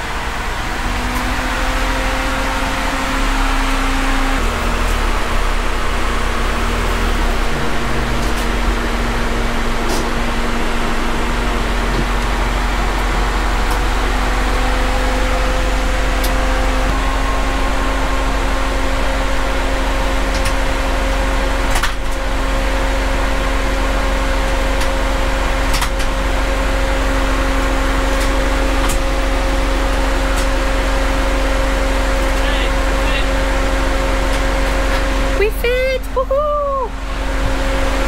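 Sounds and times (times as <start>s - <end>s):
machine hum with low rumble: 0.0s - 38.0s.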